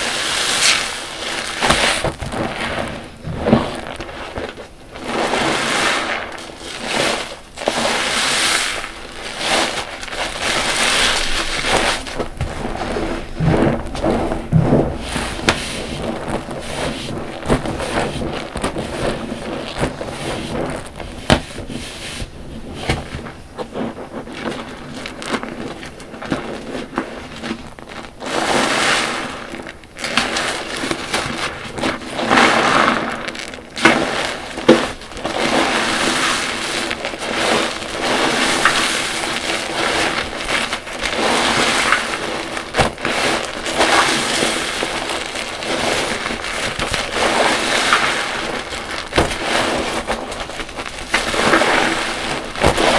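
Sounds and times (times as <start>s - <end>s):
sponges squeezed in soapy water: 0.0s - 52.9s.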